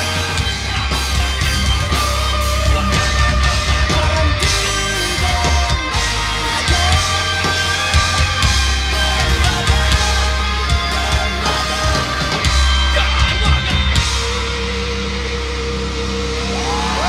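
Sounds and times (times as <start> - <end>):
live heavy rock band: 0.0 - 17.0.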